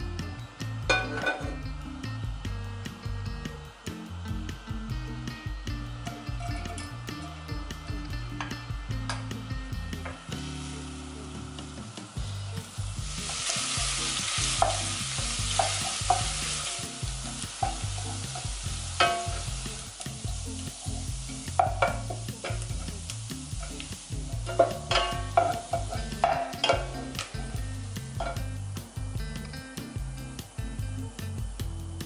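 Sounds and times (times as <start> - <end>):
ginger sizzling in hot oil: 0.0 - 32.0.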